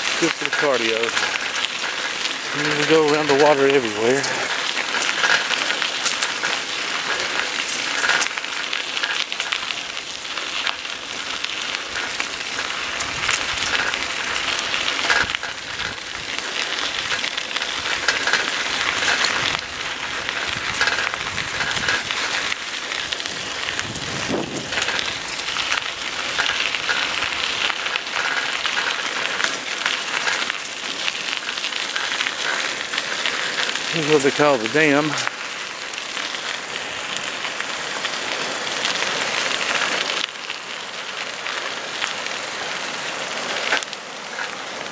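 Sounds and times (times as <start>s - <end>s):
bicycle tyres rolling on gravel: 0.0s - 44.9s.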